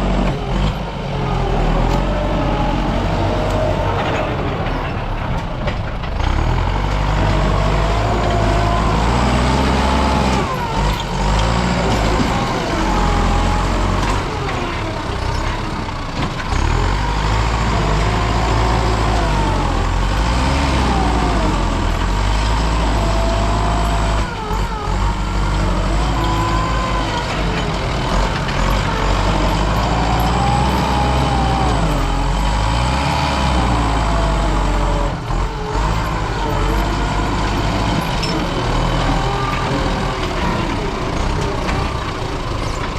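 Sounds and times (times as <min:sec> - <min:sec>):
diesel engine under load: 0:00.0 - 0:42.9.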